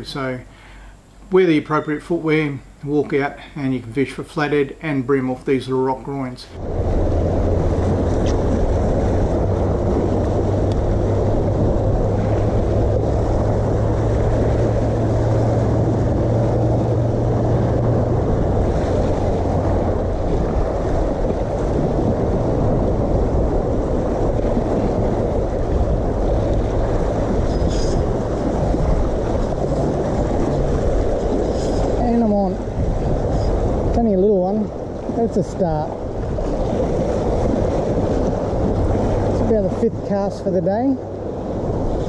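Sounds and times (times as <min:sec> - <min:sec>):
wind blowing across microphone: 0:06.4 - 0:42.0.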